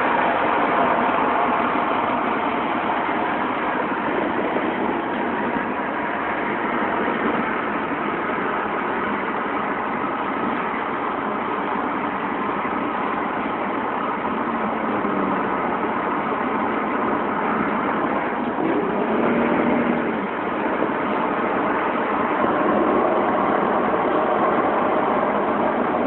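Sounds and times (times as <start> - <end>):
freeway traffic drone: 0.0 - 26.0.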